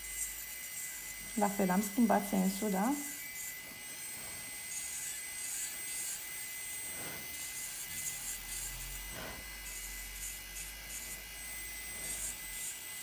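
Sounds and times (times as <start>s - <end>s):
electric nail drill whining: 0.0s - 13.0s.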